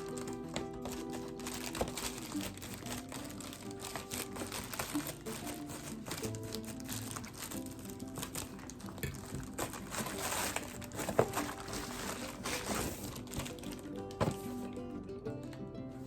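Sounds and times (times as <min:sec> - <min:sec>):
packaging crinkling and rustling: 0:00.0 - 0:14.8
soft background music: 0:00.0 - 0:16.0.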